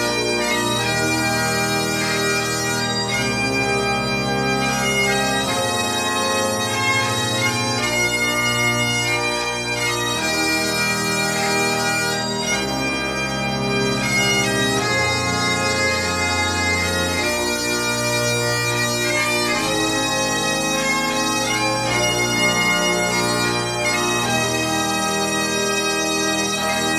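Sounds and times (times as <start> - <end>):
bagpipe music: 0.0 - 26.9.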